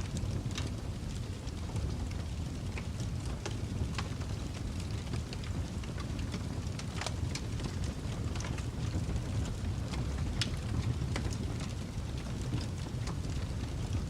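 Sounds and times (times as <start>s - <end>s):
fire crackles and pops: 0.0s - 14.0s
wood fire burning: 0.0s - 14.0s.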